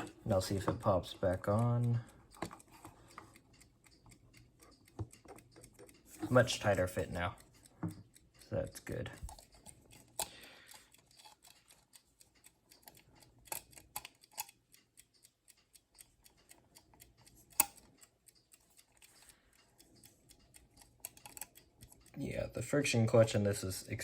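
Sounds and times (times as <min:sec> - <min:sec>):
alarm clock hands clicking: 0:00.0 - 0:24.0.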